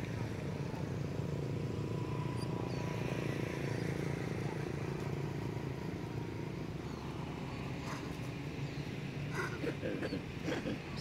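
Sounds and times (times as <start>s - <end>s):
low vehicle engine rumble: 0.0s - 11.0s.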